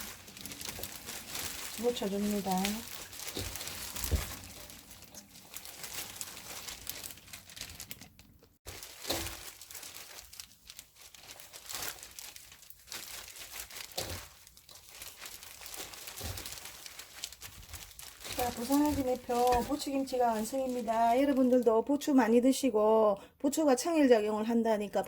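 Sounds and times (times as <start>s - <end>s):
chives rustling in seasoning: 0.0s - 21.7s.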